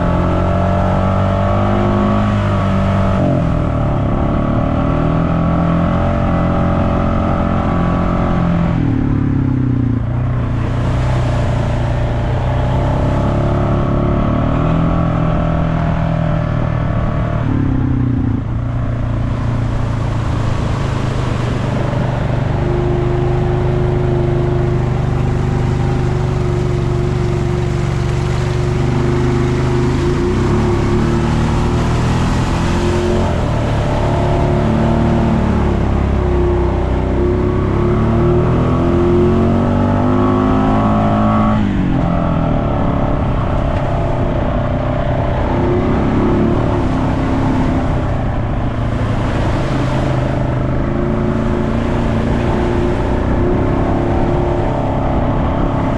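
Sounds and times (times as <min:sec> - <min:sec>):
off-road vehicle engine under load: 0:00.0 - 0:55.9.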